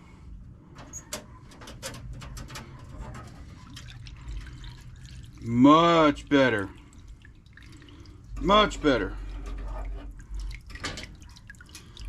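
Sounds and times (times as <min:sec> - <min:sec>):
liquid dripping into a tank: 0:02.2 - 0:12.0.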